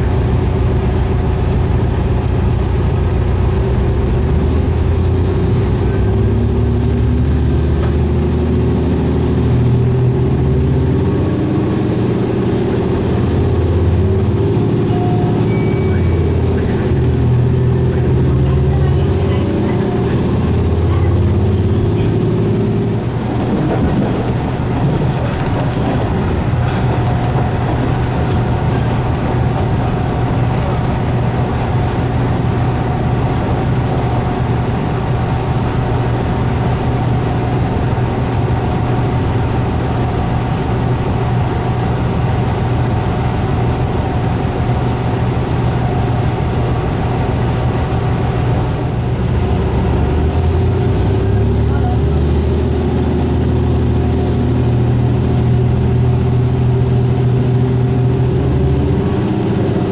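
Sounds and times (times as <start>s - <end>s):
diesel engine drone: 0.0s - 59.9s
track rumble: 0.0s - 59.9s.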